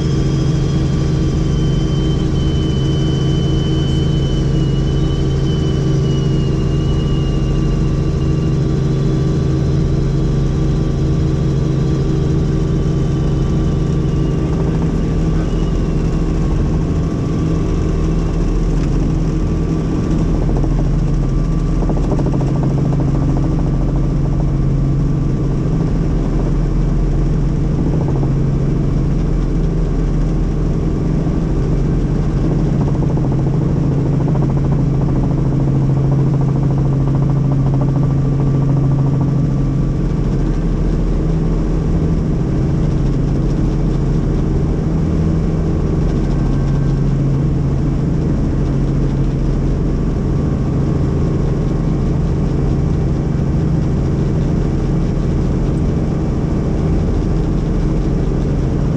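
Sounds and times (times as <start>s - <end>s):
helicopter engine and rotor drone: 0.0s - 58.9s.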